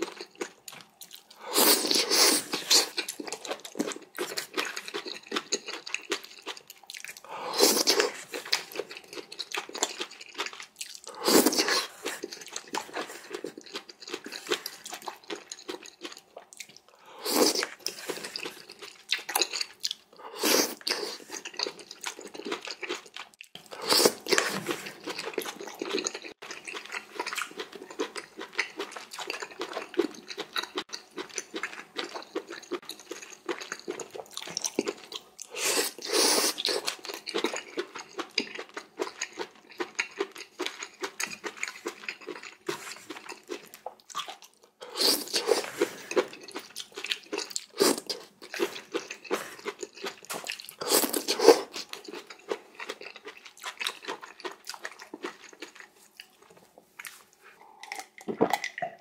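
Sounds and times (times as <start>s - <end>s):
person chewing and crunching noodles: 0.0s - 59.0s.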